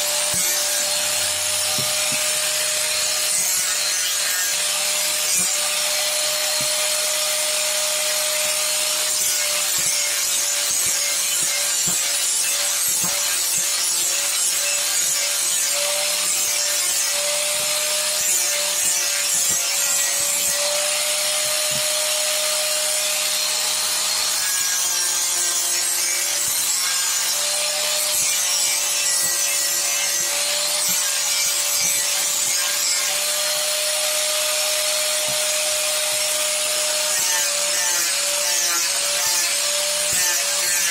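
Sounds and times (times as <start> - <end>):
angle grinder grinding wood: 0.0 - 40.9.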